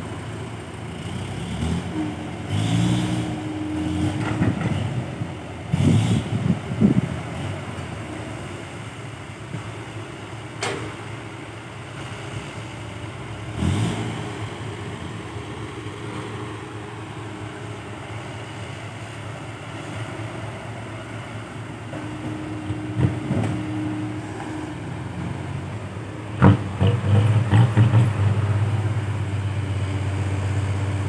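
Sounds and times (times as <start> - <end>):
excavator engine droning: 0.0 - 31.0.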